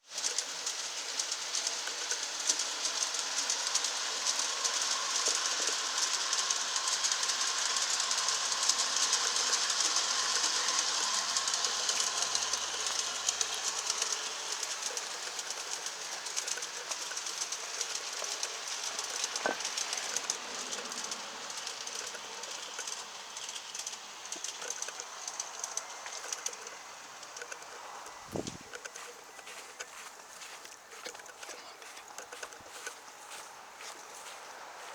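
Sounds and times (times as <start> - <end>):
model train wheels clicking on rails: 0.0 - 34.9.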